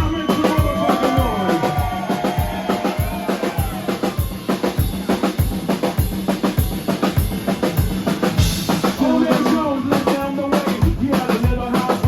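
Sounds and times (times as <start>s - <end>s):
drum kit beat: 0.0s - 12.0s.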